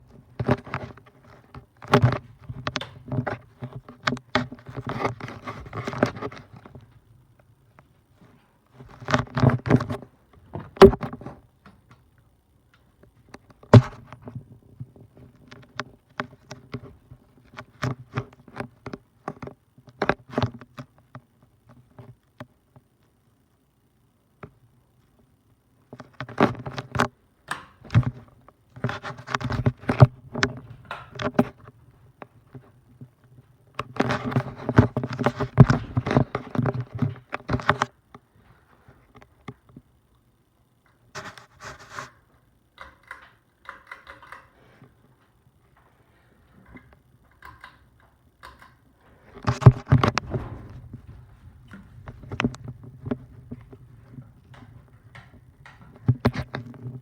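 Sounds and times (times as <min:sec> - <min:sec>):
fan clicks and rattles: 0:00.0 - 0:08.0, 0:08.8 - 0:22.6, 0:25.9 - 0:40.2, 0:40.8 - 0:57.0
ceiling fan motor hum: 0:00.0 - 0:57.0.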